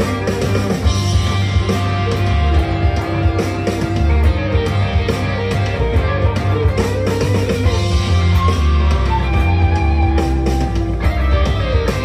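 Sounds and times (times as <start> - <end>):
blues-rock backing track: 0.0 - 12.0
electric guitar lead: 0.0 - 12.0.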